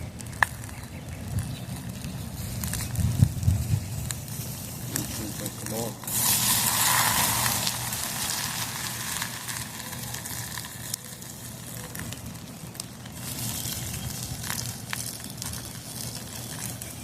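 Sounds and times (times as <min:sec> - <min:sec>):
fire crackling and hissing: 0:00.0 - 0:17.0
fire popping sharply: 0:00.0 - 0:17.0.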